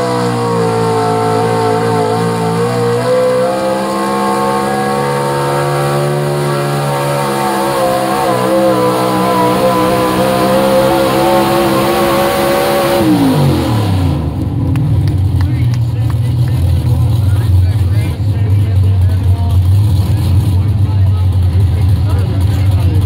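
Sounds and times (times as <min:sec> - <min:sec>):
truck engine wailing at high revs: 0:00.0 - 0:23.0.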